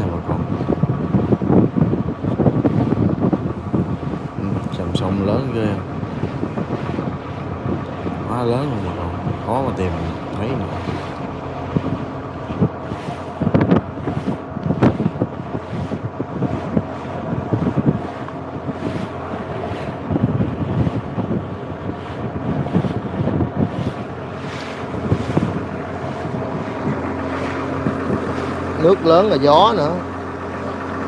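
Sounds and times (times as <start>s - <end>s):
boat engine running: 0.0s - 31.0s
wind buffeting microphone: 0.0s - 31.0s.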